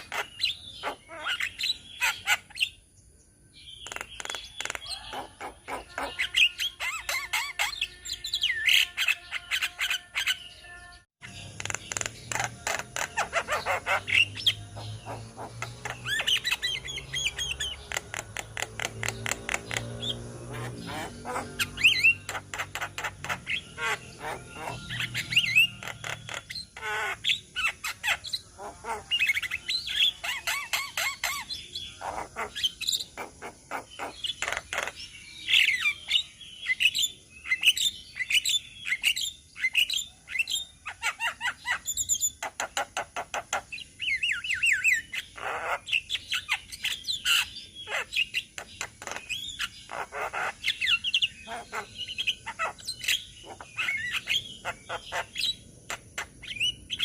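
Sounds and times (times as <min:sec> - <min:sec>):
birds chattering and calling: 0:00.0 - 0:57.0.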